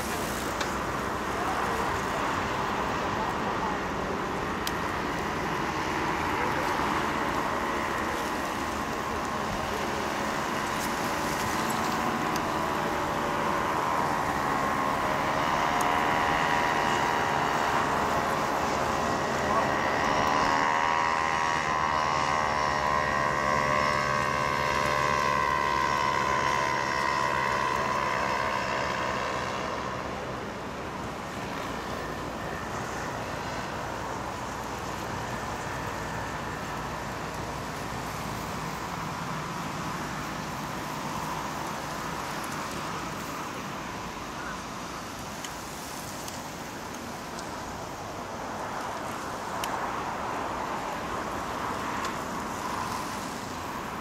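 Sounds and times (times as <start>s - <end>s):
propeller engine droning overhead: 0.0s - 54.0s
traffic: 0.0s - 54.0s.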